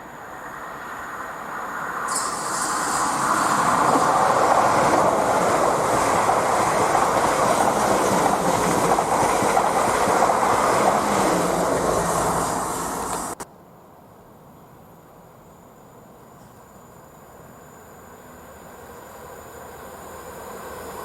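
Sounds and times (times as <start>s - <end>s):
train passing at speed: 0.0s - 13.4s, 16.8s - 21.0s.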